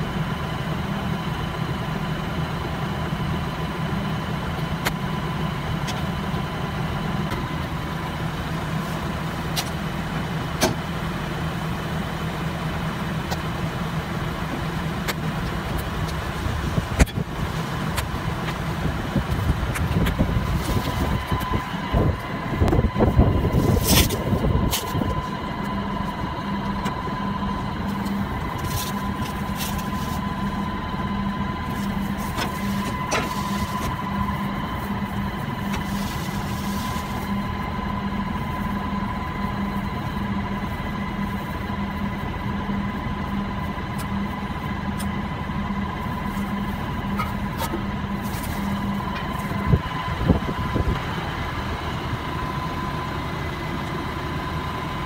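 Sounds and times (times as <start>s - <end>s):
baler machine whining and throbbing: 0.0s - 55.0s.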